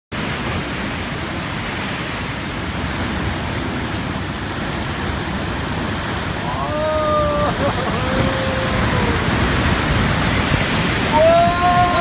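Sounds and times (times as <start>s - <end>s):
heavy ocean surf: 0.1s - 12.0s.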